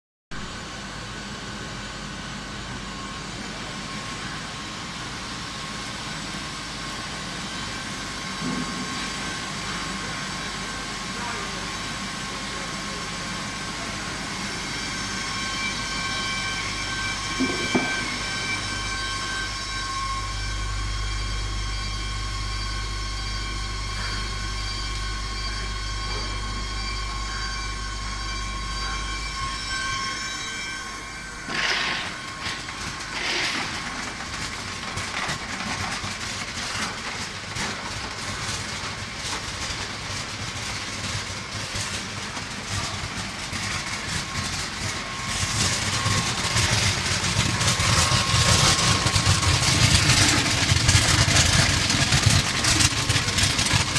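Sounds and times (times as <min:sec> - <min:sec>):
machine humming and whining: 0:00.3 - 0:53.9.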